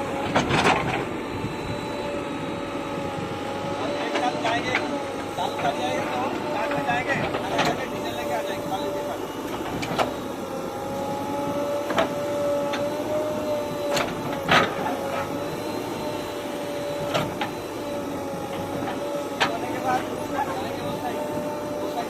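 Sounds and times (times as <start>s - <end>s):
bulldozer engine whining: 0.0s - 22.0s.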